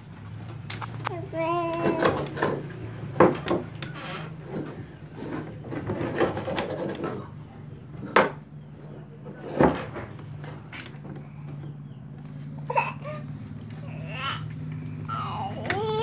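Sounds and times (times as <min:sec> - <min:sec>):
low voices murmuring: 0:01.0 - 0:16.0.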